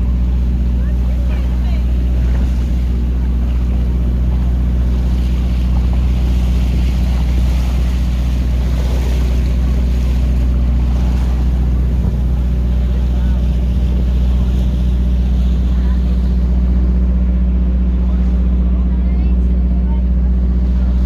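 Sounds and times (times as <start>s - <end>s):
boat engine humming: 0.0s - 21.0s
wind and water rushing: 0.0s - 21.0s.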